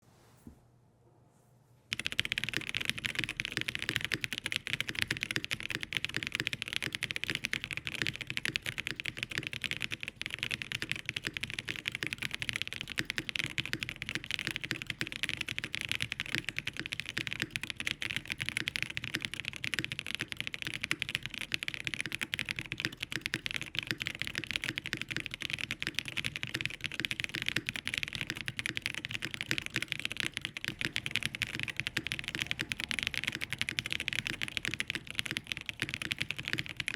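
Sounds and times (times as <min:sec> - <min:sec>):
fast typing on mechanical keyboard: 0:01.9 - 0:36.9.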